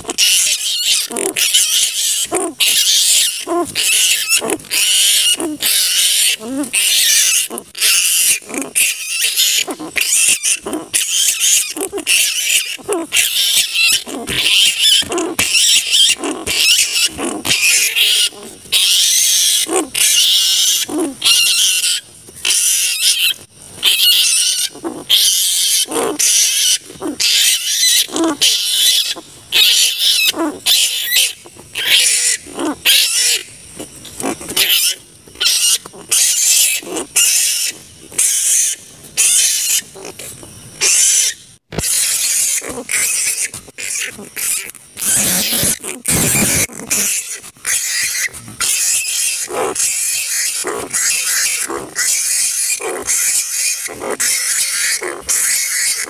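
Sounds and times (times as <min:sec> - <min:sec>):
fruit bats screeching: 0:00.0 - 0:56.0.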